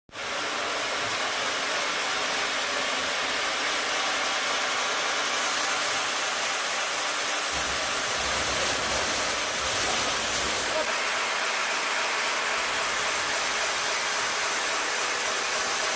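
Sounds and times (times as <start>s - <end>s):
sawmill machinery hissing: 0.1s - 15.9s.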